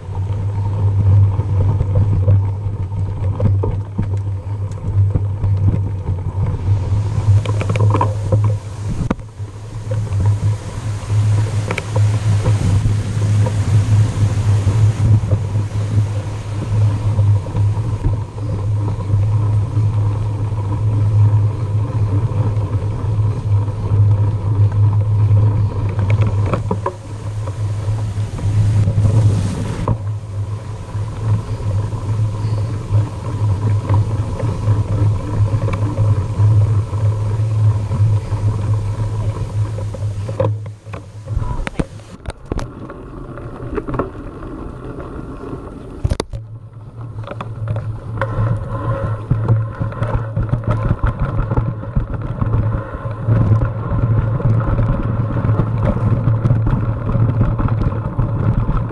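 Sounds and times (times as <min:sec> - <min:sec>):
mountain bike rattling on dirt: 0:00.0 - 0:58.9
wind rumbling on microphone: 0:00.0 - 0:58.9.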